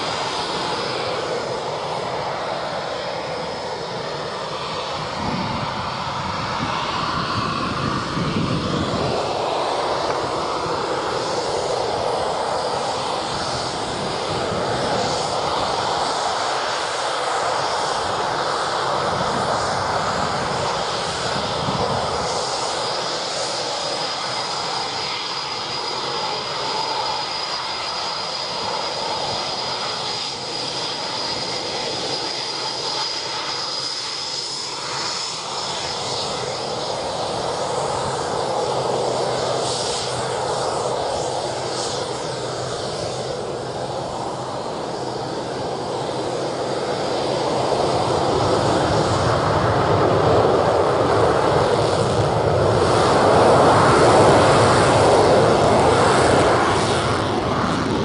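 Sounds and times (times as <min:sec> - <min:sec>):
jet engines whine and rumble: 0:00.0 - 0:58.0.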